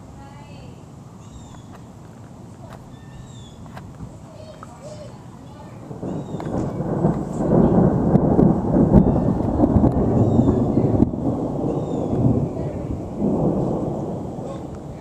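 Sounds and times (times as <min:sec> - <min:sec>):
thunder rumbling: 0:02.8 - 0:15.0.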